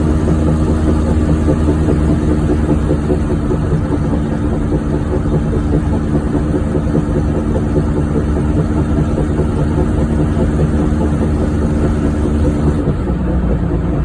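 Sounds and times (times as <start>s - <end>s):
car engine and road rumble: 0.0s - 14.0s
low hum: 0.0s - 14.0s.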